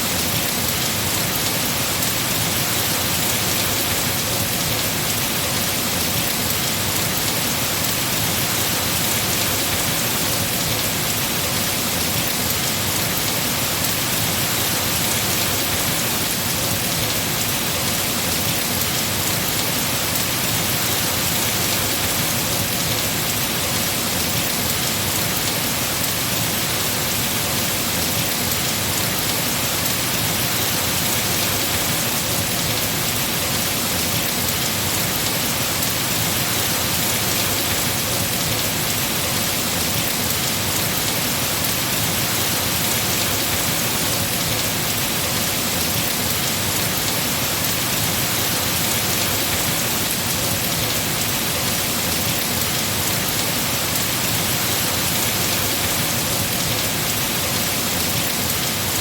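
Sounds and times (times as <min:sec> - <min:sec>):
heavy rain falling on trees: 0:00.0 - 0:59.0.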